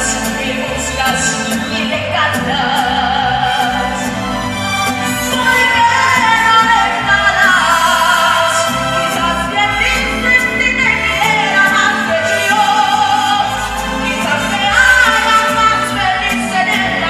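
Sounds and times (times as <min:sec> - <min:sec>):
woman singing into microphone: 0:00.0 - 0:04.2, 0:05.2 - 0:17.0
band accompaniment: 0:00.0 - 0:17.0.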